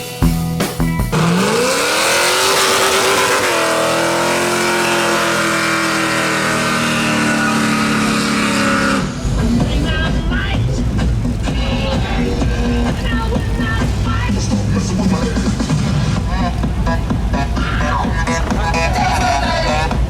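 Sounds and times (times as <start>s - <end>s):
car engine accelerating hard: 1.1s - 20.0s.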